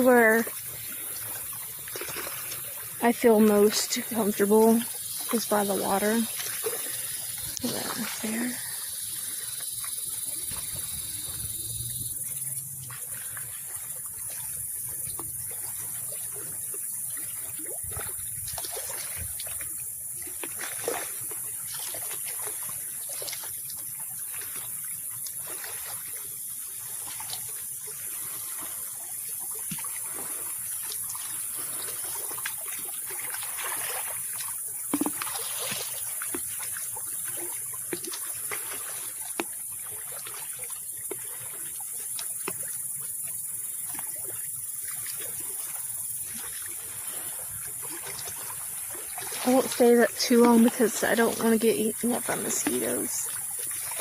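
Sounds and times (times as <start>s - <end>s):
small waves lapping at shore: 0.0s - 54.0s.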